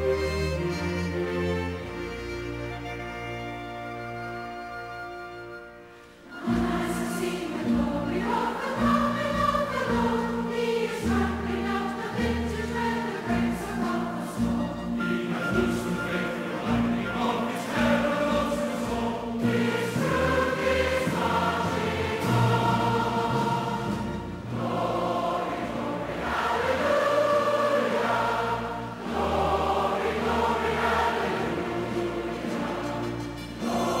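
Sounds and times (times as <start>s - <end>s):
choir singing held notes: 5.8s - 34.0s.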